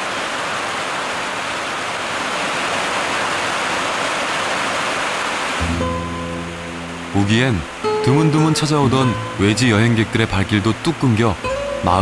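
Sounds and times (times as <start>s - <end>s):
heavy rain on grass and mud: 0.0s - 12.0s.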